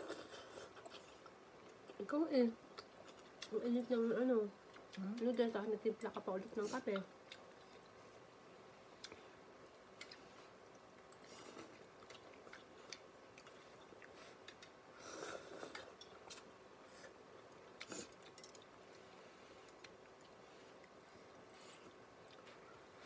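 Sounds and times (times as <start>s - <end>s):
quiet chewing: 0.0s - 2.1s, 2.7s - 8.3s, 9.0s - 23.0s.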